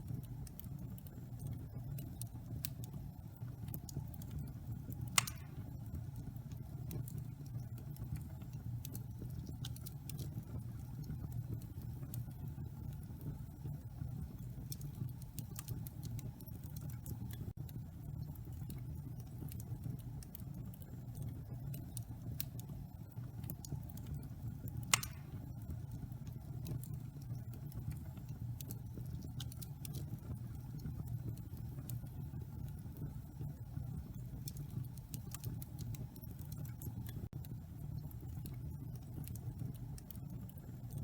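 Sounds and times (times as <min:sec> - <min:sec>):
fire crackles and snap: 0:00.0 - 0:41.0
wood fire burning: 0:00.0 - 0:41.0.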